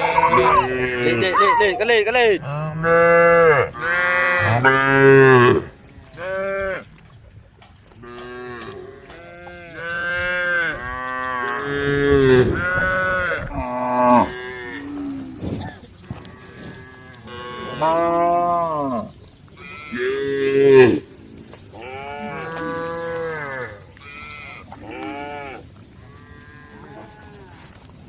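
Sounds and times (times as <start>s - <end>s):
cows mooing: 2.4s - 6.9s, 8.0s - 28.0s.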